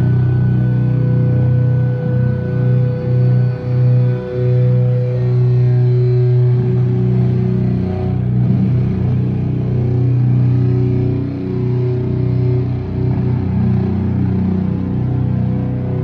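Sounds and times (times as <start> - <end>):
distorted guitars holding low chord: 0.0 - 16.0.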